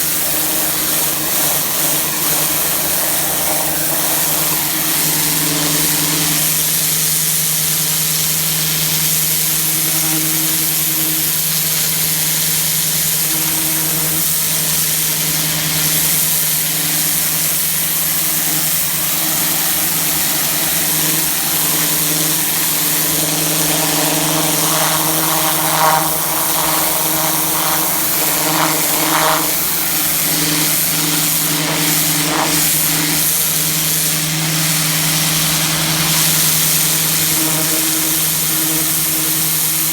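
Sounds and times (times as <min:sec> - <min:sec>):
pressure washer engine running: 0:00.0 - 0:39.9
water spray hissing on concrete: 0:00.0 - 0:39.9.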